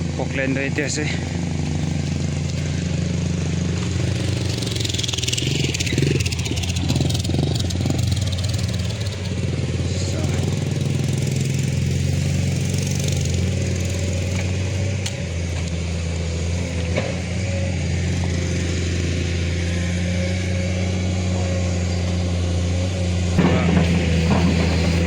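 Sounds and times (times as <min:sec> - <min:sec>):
excavator diesel engine droning: 0:00.0 - 0:25.0.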